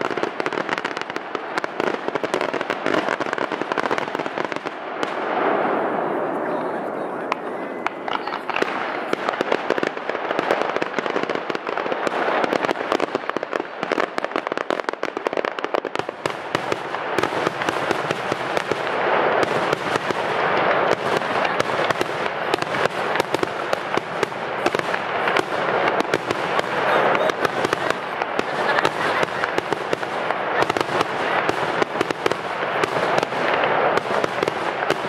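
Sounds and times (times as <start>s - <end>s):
fireworks crackling pops: 0.0s - 6.0s, 7.3s - 35.0s.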